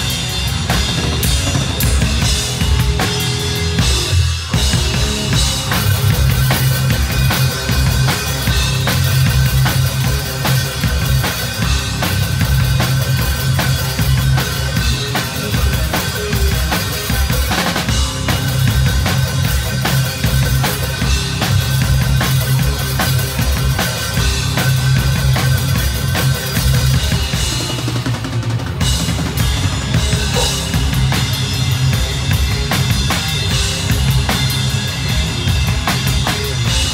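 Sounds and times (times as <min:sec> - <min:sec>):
drum kit played fast: 0:00.0 - 0:36.9
metal band playing live: 0:00.0 - 0:36.9.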